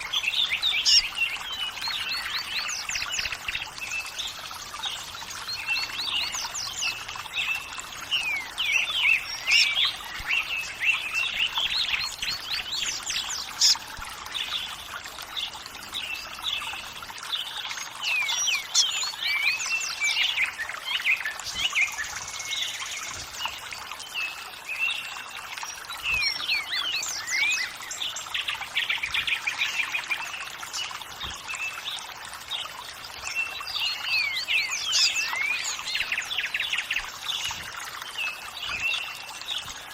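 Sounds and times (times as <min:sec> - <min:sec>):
small birds chirping: 0:00.0 - 0:39.9
trickle of running water: 0:00.0 - 0:39.9.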